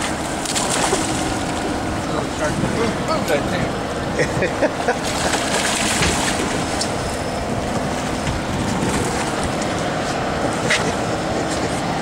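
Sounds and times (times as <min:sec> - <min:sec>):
boat engine rumble: 0:00.0 - 0:12.0
water washing against hull: 0:00.0 - 0:12.0.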